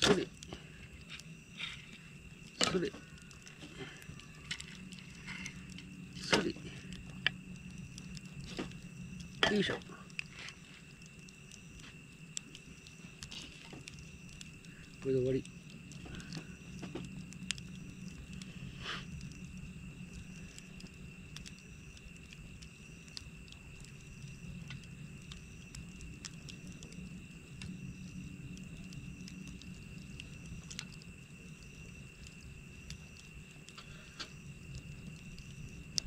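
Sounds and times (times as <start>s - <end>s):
campfire crackling and popping: 0.0s - 36.0s
high-pitched insect trill: 0.0s - 36.0s.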